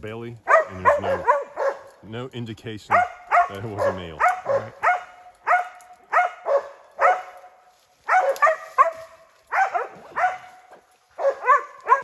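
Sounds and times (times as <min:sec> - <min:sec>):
dogs barking: 0:00.4 - 0:02.0, 0:02.9 - 0:12.0.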